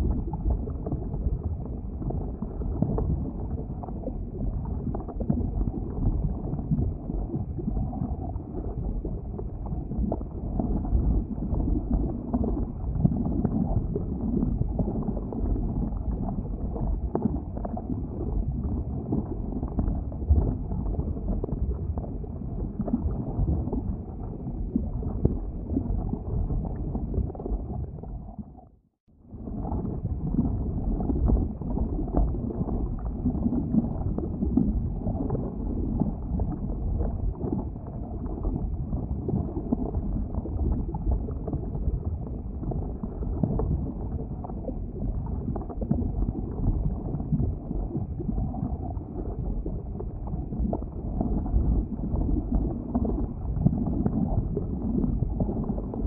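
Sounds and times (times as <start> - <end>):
lava rumbling and gurgling: 0.0 - 56.0.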